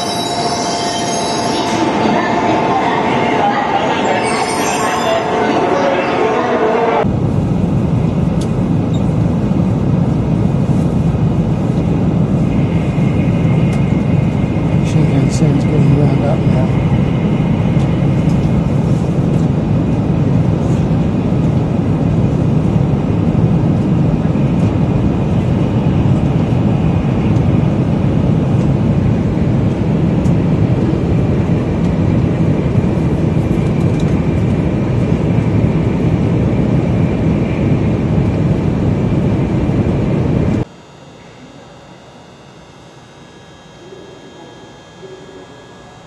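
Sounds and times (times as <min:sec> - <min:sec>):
train rumble from inside carriage: 0:00.0 - 0:40.7.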